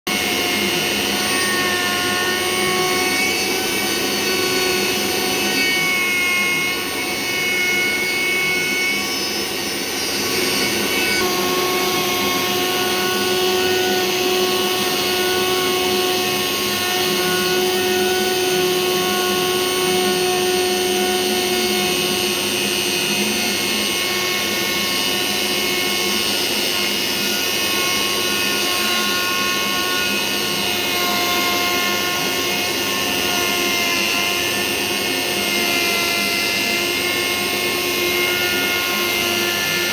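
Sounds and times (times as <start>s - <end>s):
rotary tool milling whine: 0.1s - 39.9s
vacuum hose: 0.1s - 39.9s.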